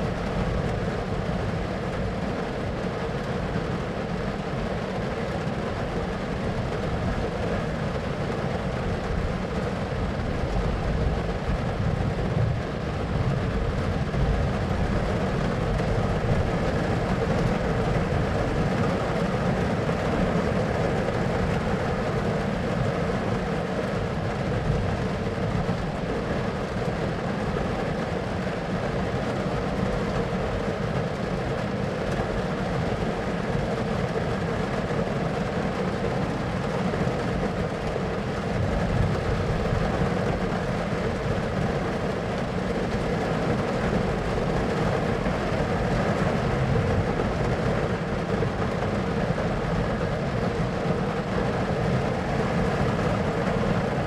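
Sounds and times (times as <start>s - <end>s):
rain and storm rumble: 0.0s - 54.0s.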